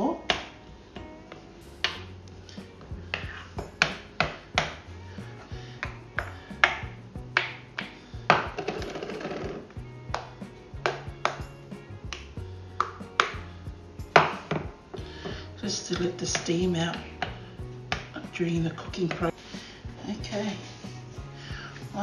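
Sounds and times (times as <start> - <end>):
background music with bass: 0.0 - 22.0.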